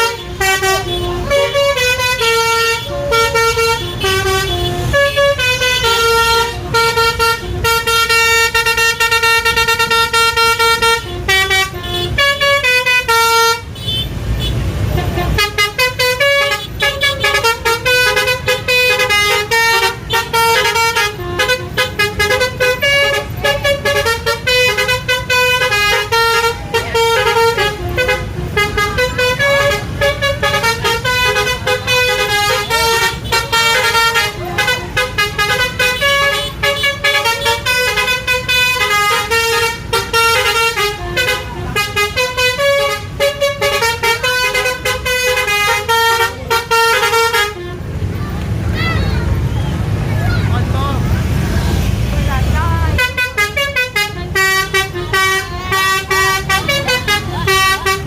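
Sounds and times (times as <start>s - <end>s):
musical bus horn tune: 0.0s - 48.2s, 52.9s - 58.0s.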